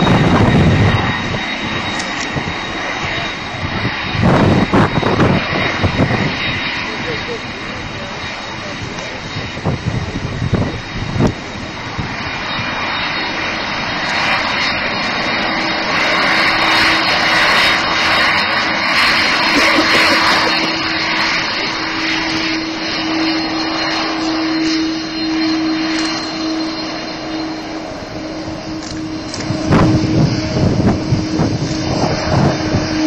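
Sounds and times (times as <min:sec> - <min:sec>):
jet engines at taxi thrust: 0:00.0 - 0:33.0.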